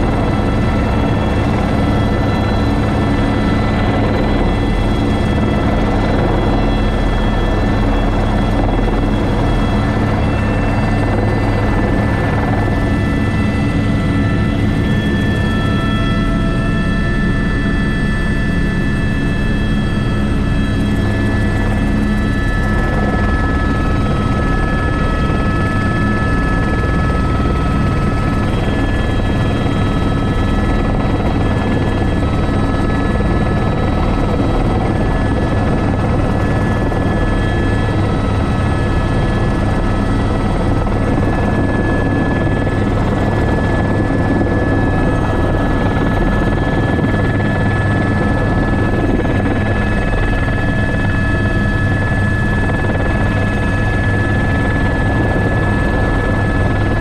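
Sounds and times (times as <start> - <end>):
helicopter rotor drone: 0.0 - 57.0
turbine whine: 0.0 - 57.0.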